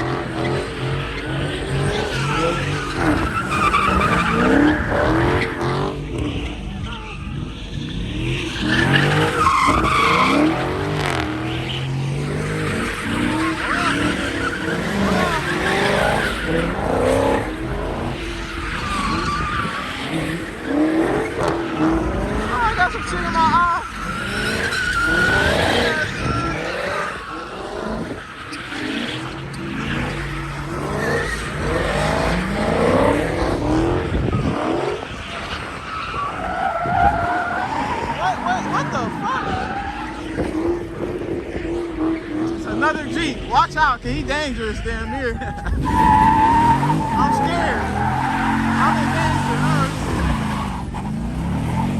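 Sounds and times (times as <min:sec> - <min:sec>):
car engines revving: 0:00.0 - 0:51.9
tires squealing: 0:00.0 - 0:51.9.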